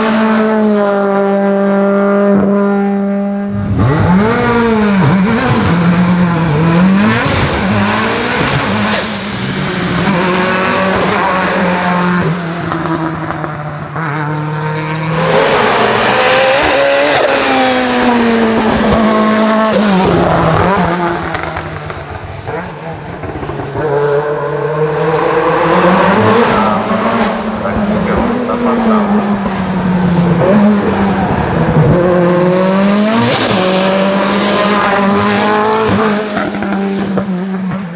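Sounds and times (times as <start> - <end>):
racing car engine accelerating: 0.0 - 37.9.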